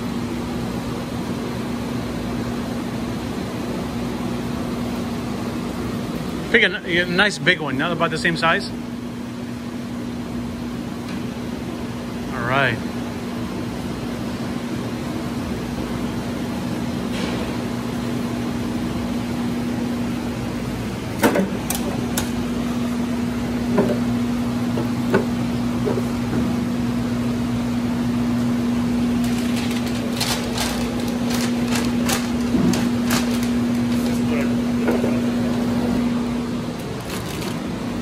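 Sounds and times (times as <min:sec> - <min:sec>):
steady hum and hiss: 0:00.0 - 0:38.0.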